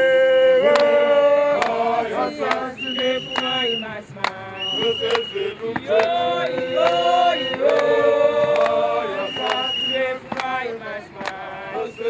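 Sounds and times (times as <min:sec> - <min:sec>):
group singing in chorus: 0:00.0 - 0:12.0.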